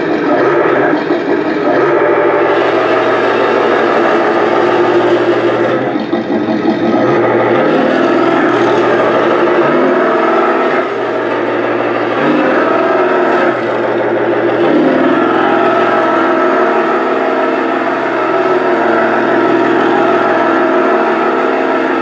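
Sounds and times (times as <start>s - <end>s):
toy truck motor drone: 0.0s - 22.0s.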